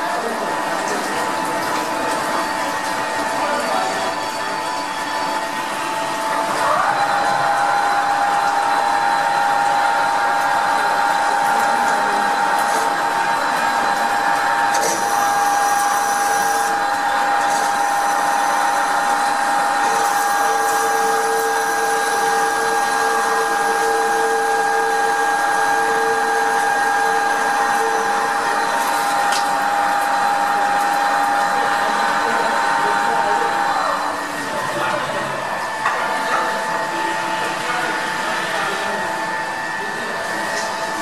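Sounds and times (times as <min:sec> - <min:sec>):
lathe spindle whine: 0:00.0 - 0:41.0.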